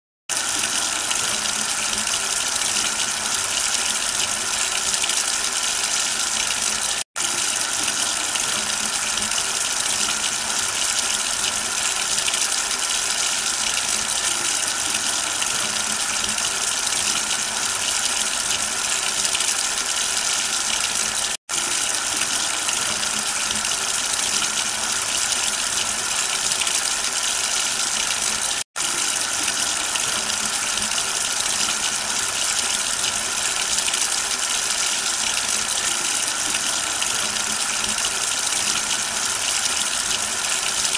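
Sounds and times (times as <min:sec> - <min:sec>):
tap water running: 0:00.3 - 0:40.9.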